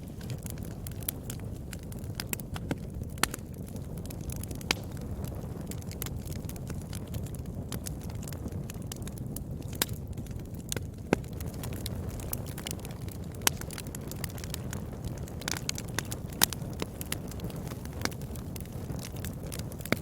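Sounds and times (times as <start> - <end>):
low rumble of flame: 0.0 - 20.0
wood fire crackles and pops: 0.0 - 20.0.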